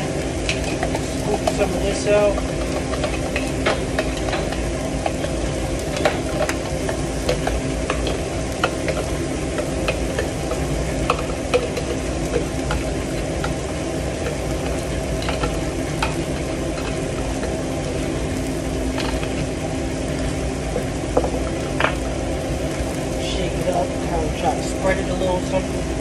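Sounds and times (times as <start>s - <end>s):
low hum: 0.0s - 26.0s
oil sizzling in frying pan: 0.0s - 26.0s.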